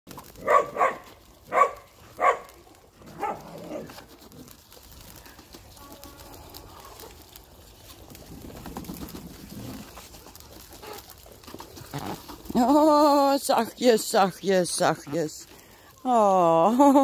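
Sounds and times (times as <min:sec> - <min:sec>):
ducks pecking in plastic bowl: 0:00.1 - 0:16.0.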